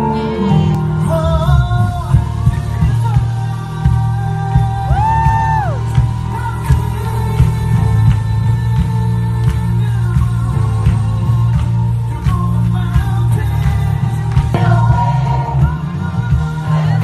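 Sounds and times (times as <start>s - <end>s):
worship music with keyboard and beat: 0.0s - 17.0s.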